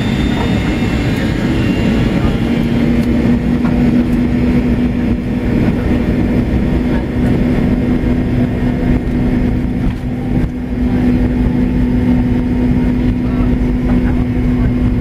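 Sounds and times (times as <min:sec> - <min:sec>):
jet engine hum: 0:00.0 - 0:15.0
wheels and airframe rumble: 0:00.0 - 0:15.0.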